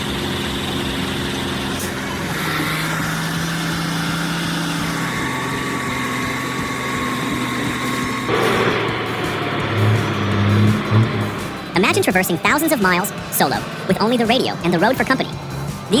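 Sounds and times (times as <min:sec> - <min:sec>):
thin whine: 0:00.0 - 0:16.0
truck engine running: 0:00.0 - 0:16.0.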